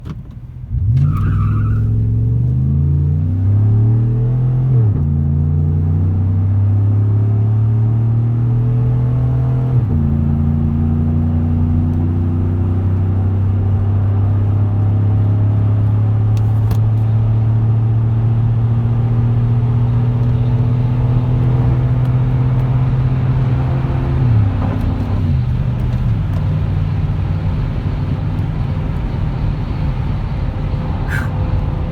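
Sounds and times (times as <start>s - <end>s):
truck engine accelerating hard: 0.7s - 31.9s.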